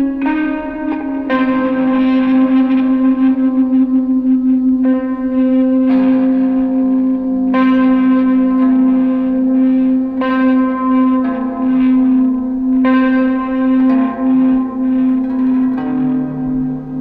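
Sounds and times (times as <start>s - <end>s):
electric guitar with echo and reverb: 0.0s - 17.0s.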